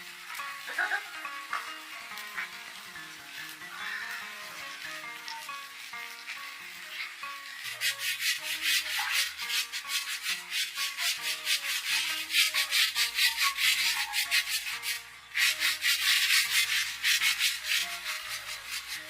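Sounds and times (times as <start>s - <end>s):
fast rhythmic rubbing strokes: 0.0s - 19.0s
soft background music: 0.0s - 19.0s.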